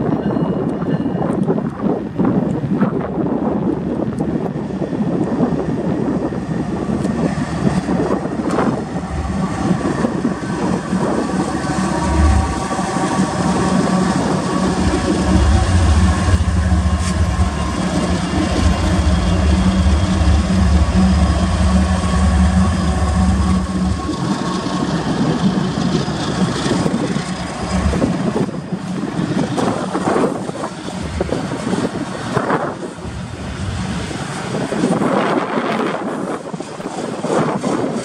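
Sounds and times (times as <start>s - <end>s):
diesel locomotive engine drone: 0.0s - 38.0s
train cars clicking and clunking: 0.0s - 38.0s
train wheels rolling on rails: 0.0s - 38.0s.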